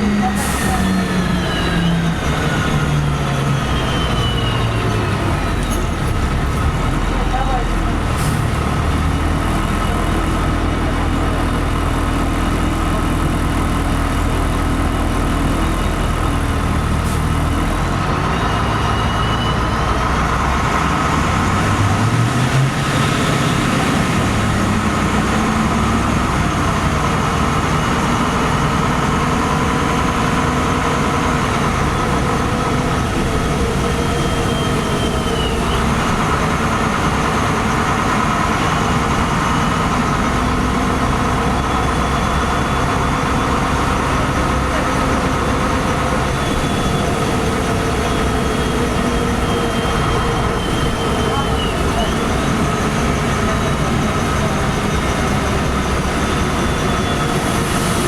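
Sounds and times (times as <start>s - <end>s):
bus engine: 0.0s - 58.0s
road noise: 0.0s - 58.0s.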